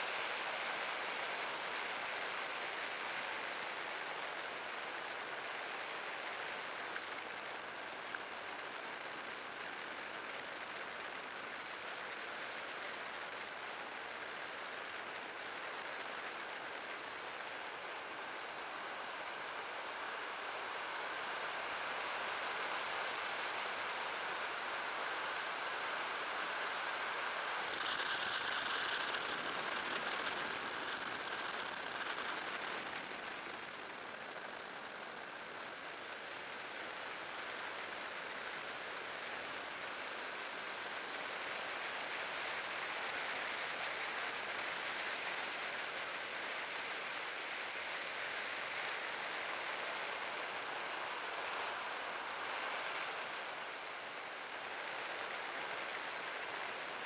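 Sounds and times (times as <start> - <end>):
wind and rolling noise: 0.0 - 57.0.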